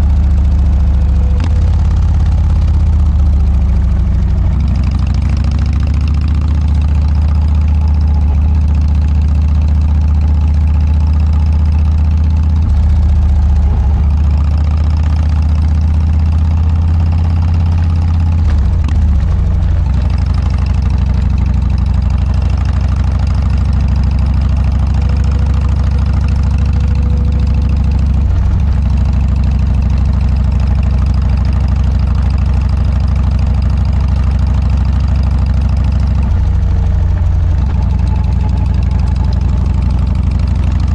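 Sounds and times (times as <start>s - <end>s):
motorcycle engine exhaust note: 0.0s - 40.9s.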